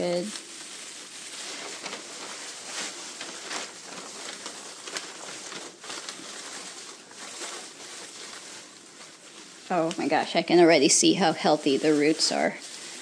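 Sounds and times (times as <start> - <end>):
shredded paper rustling: 0.0 - 13.0.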